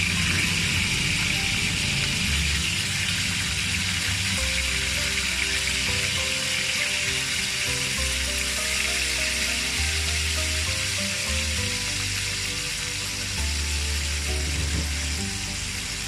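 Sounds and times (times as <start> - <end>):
background music with bass: 0.0 - 16.0
fish sizzling in hot oil: 0.0 - 16.0.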